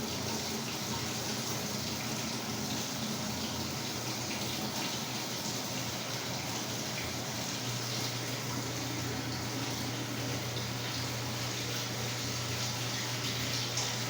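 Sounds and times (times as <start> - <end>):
water rushing into washer tub: 0.0 - 14.0.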